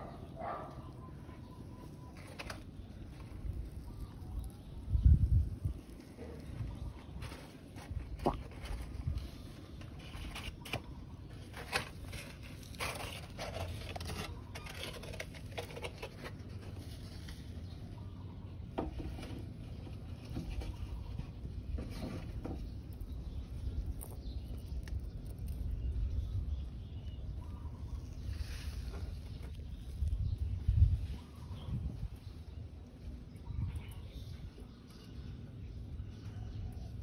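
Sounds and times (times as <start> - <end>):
soil scraping and crackling: 0.5 - 18.2, 18.8 - 36.2.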